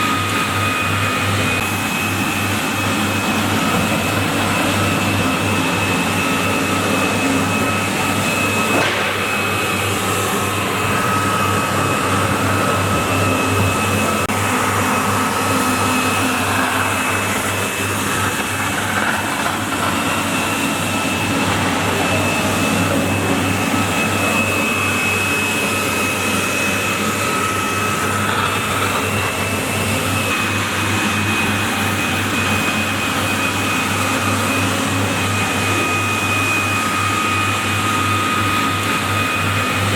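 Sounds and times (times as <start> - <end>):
floor scrubber running: 0.0 - 39.9.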